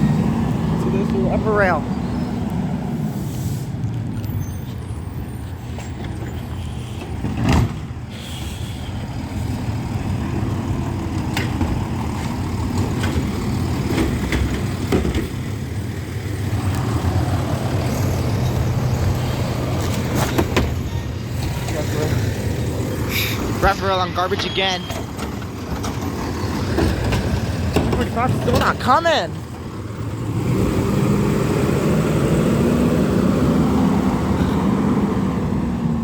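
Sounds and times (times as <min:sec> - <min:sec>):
garbage truck engine drone: 0:00.0 - 0:36.0.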